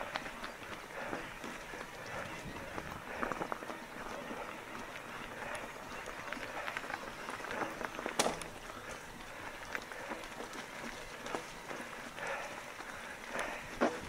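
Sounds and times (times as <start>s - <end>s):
bike tyres rolling on gravel: 0.0s - 14.0s.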